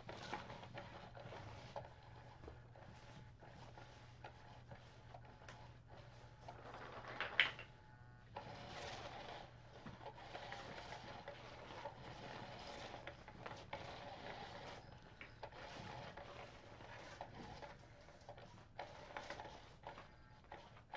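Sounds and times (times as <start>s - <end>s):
small motor whirring: 0.0s - 6.8s, 8.3s - 20.9s.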